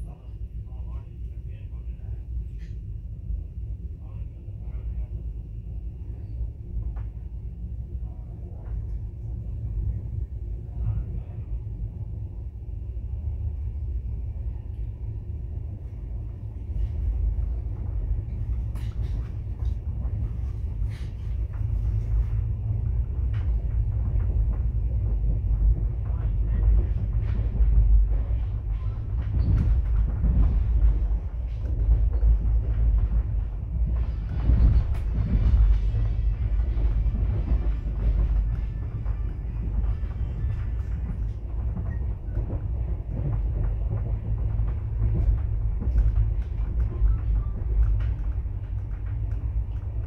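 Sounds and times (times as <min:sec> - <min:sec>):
moving train rumble: 0:00.0 - 0:50.0.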